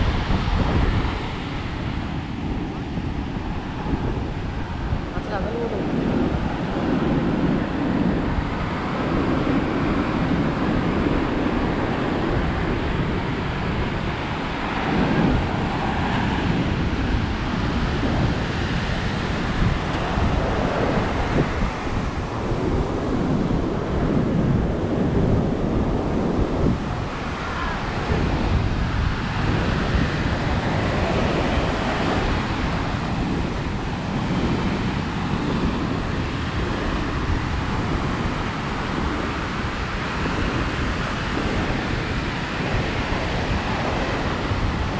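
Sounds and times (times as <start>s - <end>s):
surf breaking on shore: 0.0s - 44.9s
wind buffeting microphone: 0.0s - 44.9s.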